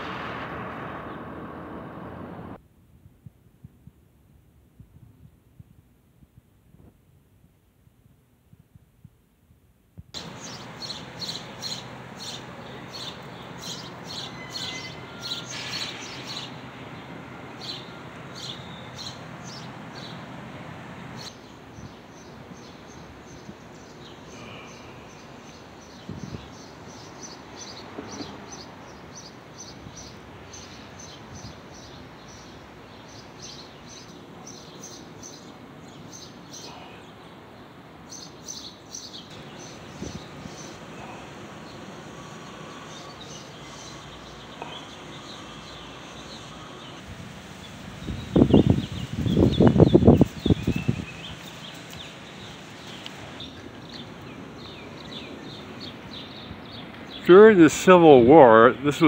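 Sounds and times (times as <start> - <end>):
street ambience: 0.0 - 8.7, 10.0 - 59.0
birds chirping: 10.2 - 59.0.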